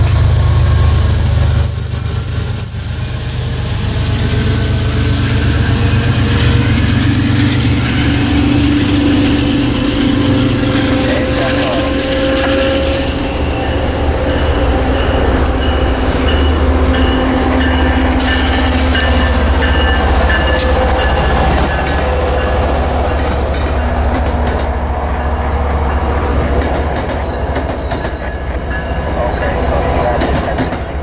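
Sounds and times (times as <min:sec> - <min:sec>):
steel wheels rumbling on rails: 0:00.0 - 0:31.0
train passing at speed: 0:00.0 - 0:31.0.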